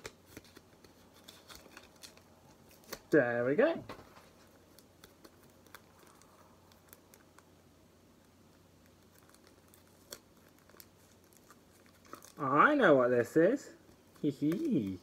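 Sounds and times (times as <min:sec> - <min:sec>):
plastic sleeve crinkling: 0:00.0 - 0:03.2, 0:04.1 - 0:07.5, 0:08.5 - 0:15.0.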